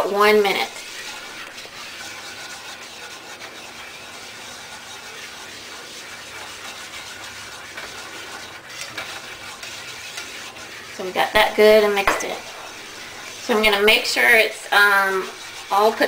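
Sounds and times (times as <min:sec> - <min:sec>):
butter and flour sizzling in saucepan: 0:00.0 - 0:16.0
whisk scraping a saucepan: 0:00.0 - 0:16.0.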